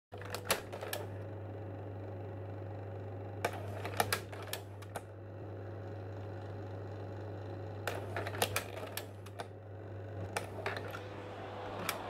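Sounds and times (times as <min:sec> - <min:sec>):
low electrical hum: 0:00.2 - 0:12.0.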